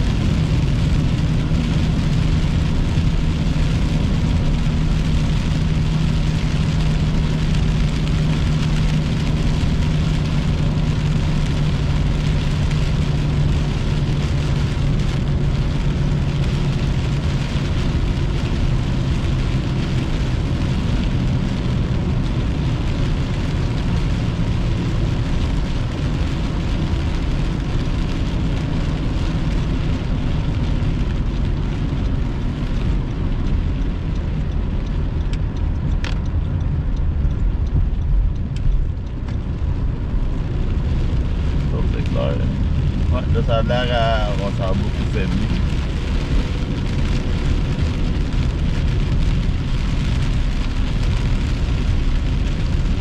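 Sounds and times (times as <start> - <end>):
car engine and tyre drone: 0.0 - 53.0
rain on windshield: 0.0 - 53.0.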